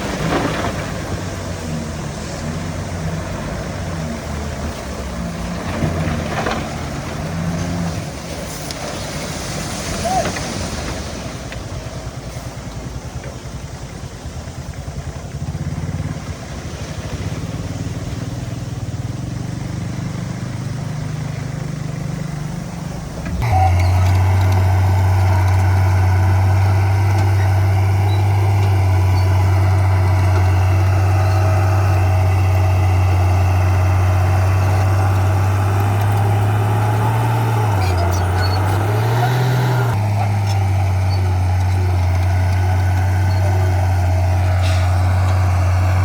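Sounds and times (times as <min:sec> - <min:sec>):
diesel engine chugging: 0:00.0 - 0:46.0.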